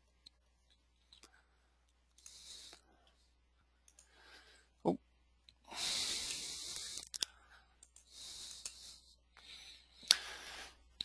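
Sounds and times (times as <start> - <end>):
faint hissing rustle: 0.0 - 4.8, 5.5 - 11.0.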